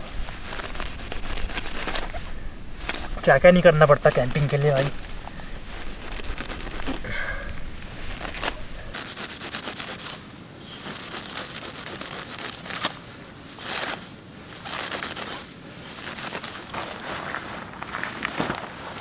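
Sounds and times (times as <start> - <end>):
knife cutting through grass: 0.0 - 13.0, 13.6 - 16.7
grass rustling: 0.0 - 19.0.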